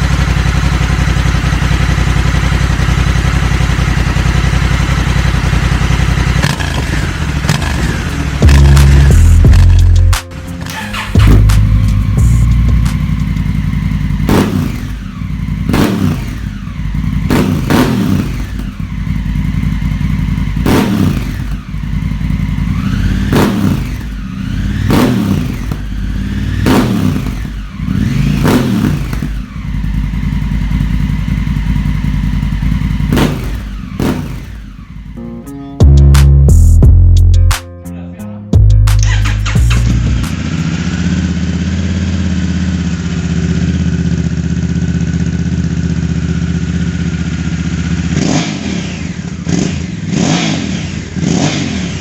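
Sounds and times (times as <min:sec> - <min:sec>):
motorcycle engine revving: 0:00.0 - 0:37.1, 0:39.0 - 0:52.0
motorcycle engine idling: 0:00.0 - 0:37.2, 0:38.6 - 0:52.0.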